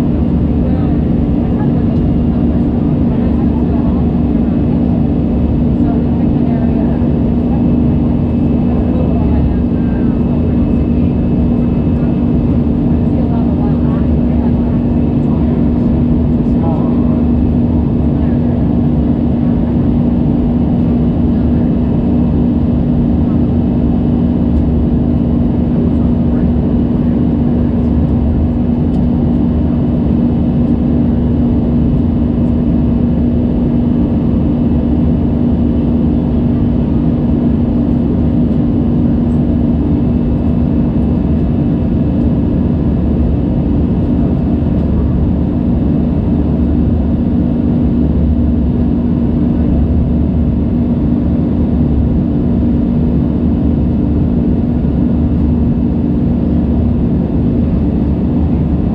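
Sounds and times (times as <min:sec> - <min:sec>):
jet engines droning in cabin: 0:00.0 - 0:58.9.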